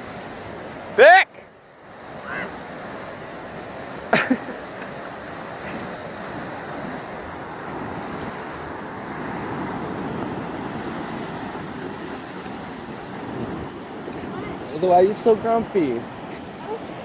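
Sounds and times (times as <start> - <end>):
ocean surf washing on beach: 0.0 - 17.0.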